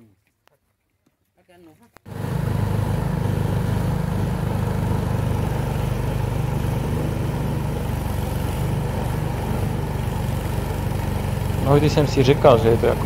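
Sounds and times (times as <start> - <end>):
motorboat engine running: 2.1 - 13.0.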